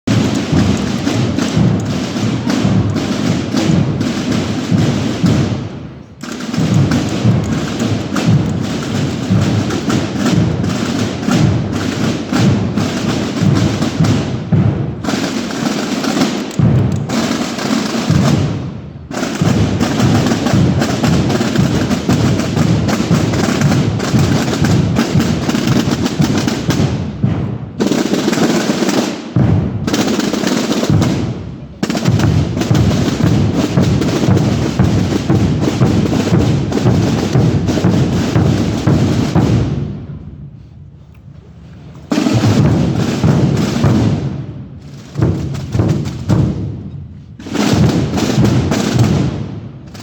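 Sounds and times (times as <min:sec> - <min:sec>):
drums rolling rhythm: 0:00.0 - 0:50.0.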